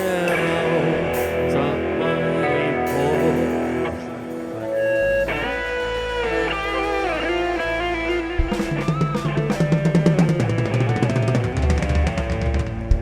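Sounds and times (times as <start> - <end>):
bass guitar: 0.0 - 13.0
drum kit: 0.0 - 13.0
lead guitar with bending notes: 0.0 - 13.0.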